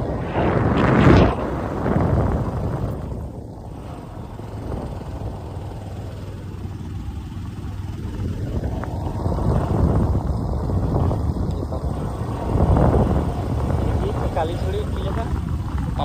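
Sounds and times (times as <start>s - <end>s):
vehicle travelling on road: 0.0s - 16.0s
wind buffeting microphone: 0.0s - 16.0s.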